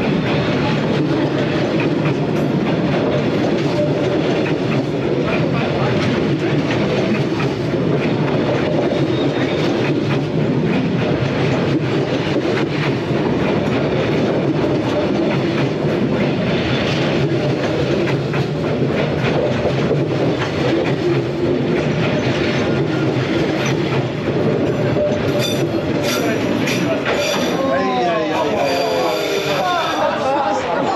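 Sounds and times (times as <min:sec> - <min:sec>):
train wheels clacking on rails: 0:00.0 - 0:30.2.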